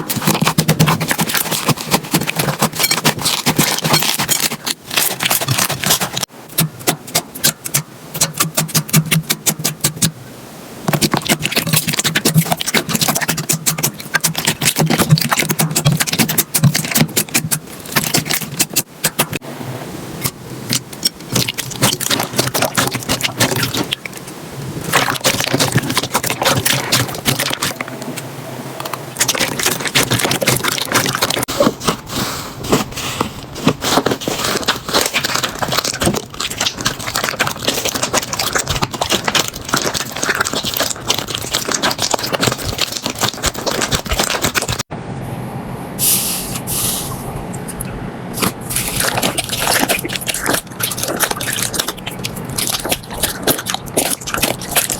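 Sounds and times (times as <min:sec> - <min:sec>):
slime crackling and popping: 0:00.0 - 0:10.1, 0:10.9 - 0:19.4, 0:20.2 - 0:27.8, 0:29.2 - 0:32.0, 0:33.5 - 0:44.9, 0:48.4 - 0:54.9.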